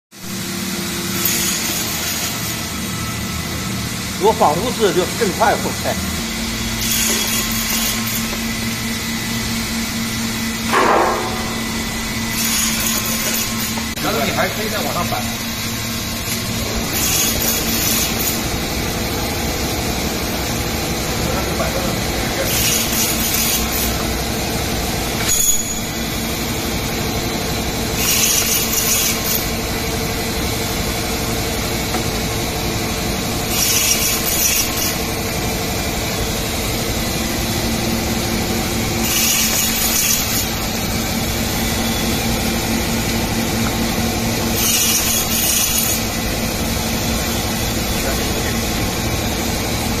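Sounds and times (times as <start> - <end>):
bandsaw humming: 0.3 - 50.0.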